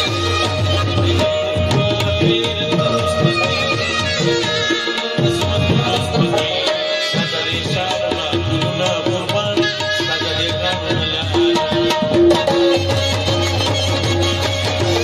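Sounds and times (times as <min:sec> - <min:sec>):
harmonium melody: 0:00.0 - 0:15.0
tabla strokes: 0:00.0 - 0:15.0.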